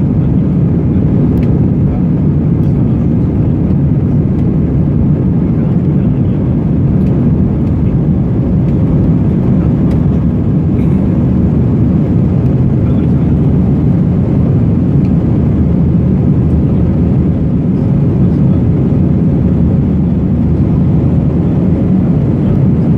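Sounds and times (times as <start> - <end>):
jet engines low roar: 0.0 - 22.9.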